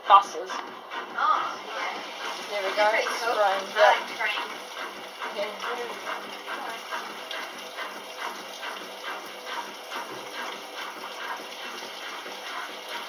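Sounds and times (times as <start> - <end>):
washing machine filling with water: 0.0 - 13.0.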